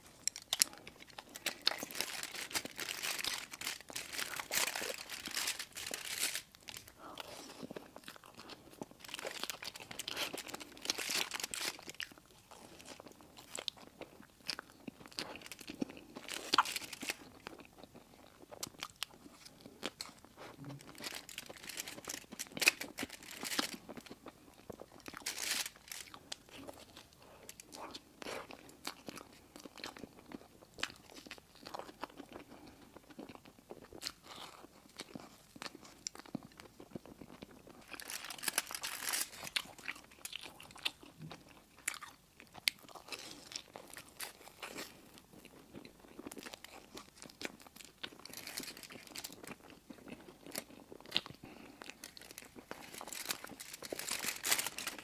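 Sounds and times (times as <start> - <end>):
crunching and chewing sweets: 0.0 - 55.0.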